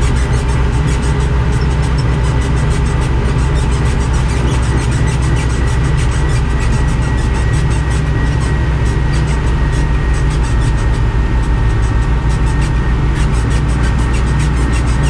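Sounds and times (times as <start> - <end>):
high whine: 0.0 - 15.0
tractor diesel engine running: 0.0 - 15.0.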